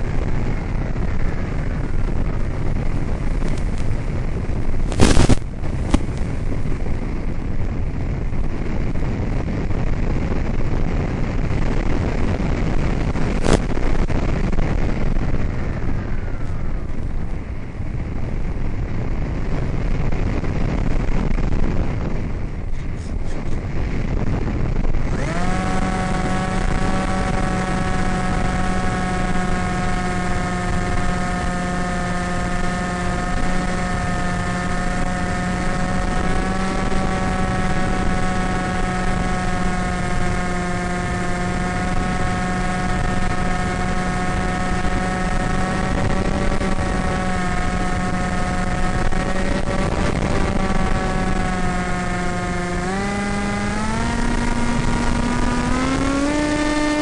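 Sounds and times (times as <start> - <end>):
electric propeller motor whine: 0.0 - 18.1, 24.1 - 57.0.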